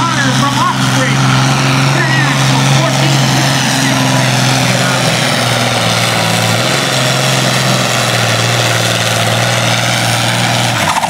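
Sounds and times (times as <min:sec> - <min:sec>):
diesel tractor engine under heavy load: 0:00.0 - 0:11.0.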